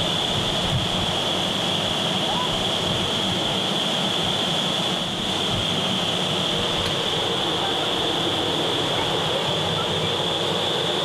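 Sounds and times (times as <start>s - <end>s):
loud rush of air: 0.0s - 11.0s.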